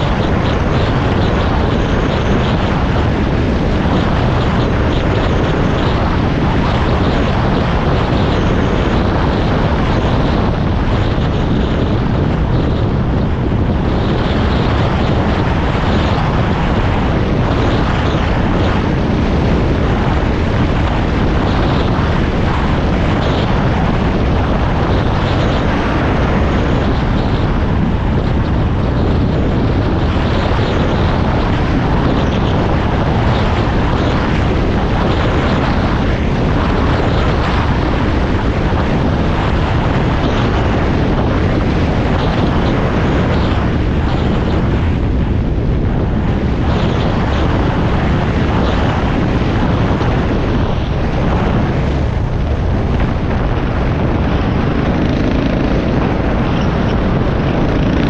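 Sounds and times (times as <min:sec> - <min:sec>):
moving vehicle running noise: 0:00.0 - 0:58.0
wind rush on microphone: 0:00.0 - 0:58.0.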